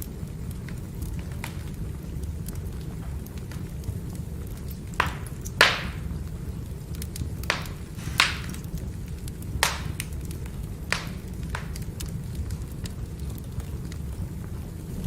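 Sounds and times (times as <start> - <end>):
firewood pops and crackles: 0.0 - 15.0
low rumble of fire: 0.0 - 15.0.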